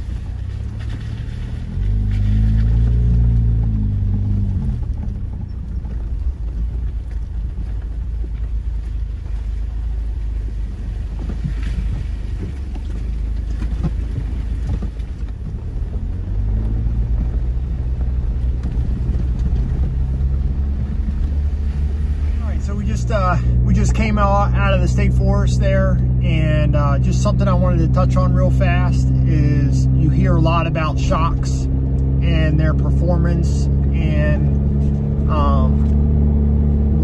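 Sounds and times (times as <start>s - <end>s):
low engine hum: 0.0s - 37.0s.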